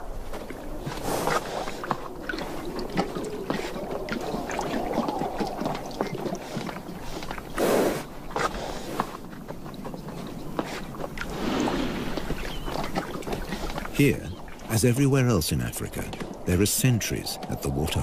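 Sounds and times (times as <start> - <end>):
horses slurping water: 0.0 - 18.0.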